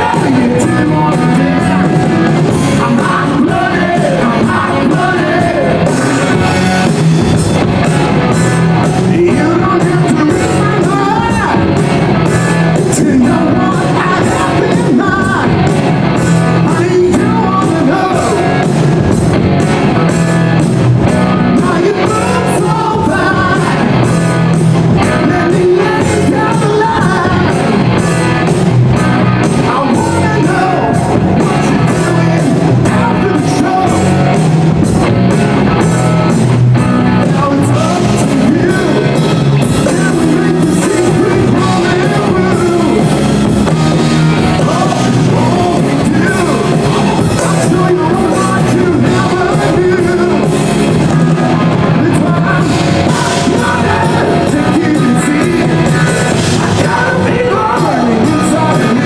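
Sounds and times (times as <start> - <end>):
rock song with male singer: 0.0 - 59.0.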